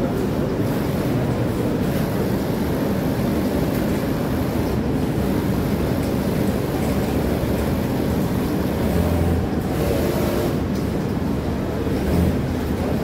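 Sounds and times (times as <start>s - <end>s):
industrial sewing machines running: 0.0s - 13.0s.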